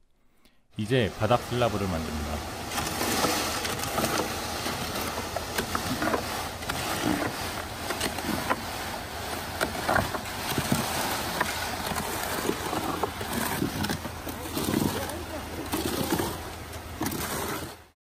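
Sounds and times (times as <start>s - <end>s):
mixer truck running: 0.8s - 18.0s
wet concrete sliding: 1.1s - 18.0s
shovel scraping metal chute: 1.2s - 18.0s.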